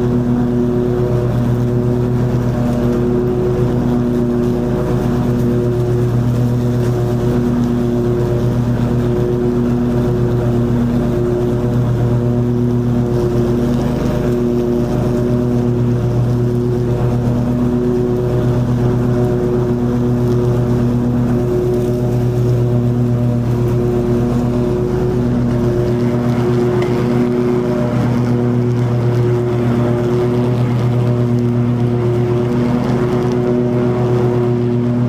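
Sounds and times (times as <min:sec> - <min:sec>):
blades cutting long grass: 0:00.0 - 0:35.0
mower engine running: 0:00.0 - 0:35.0.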